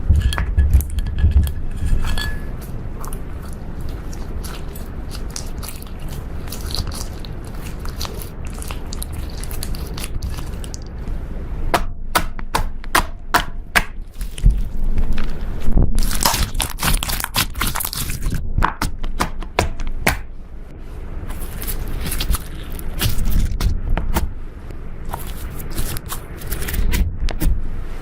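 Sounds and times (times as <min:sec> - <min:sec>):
slime kneaded by hand: 0:00.7 - 0:11.2, 0:13.8 - 0:20.3, 0:21.3 - 0:24.4, 0:25.0 - 0:28.0.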